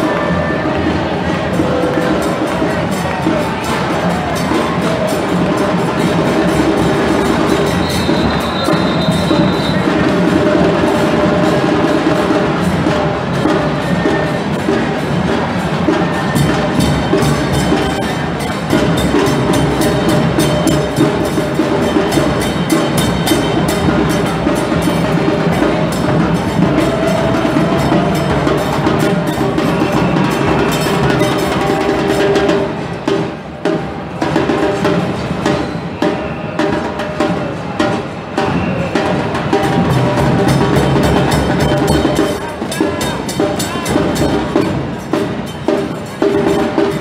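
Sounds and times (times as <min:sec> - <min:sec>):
marching drum band: 0:00.0 - 0:47.0.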